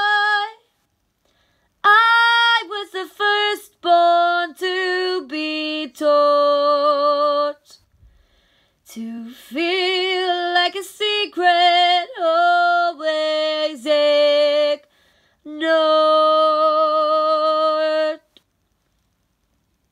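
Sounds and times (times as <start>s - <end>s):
woman singing unaccompanied: 0.0s - 0.7s, 1.8s - 7.9s, 8.8s - 18.4s.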